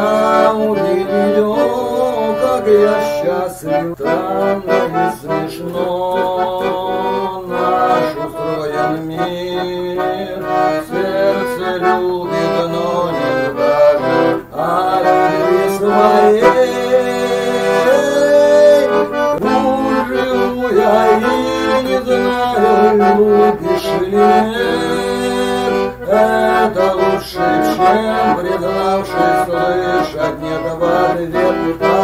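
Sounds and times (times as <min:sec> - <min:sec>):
button accordion playing: 0:00.0 - 0:32.0.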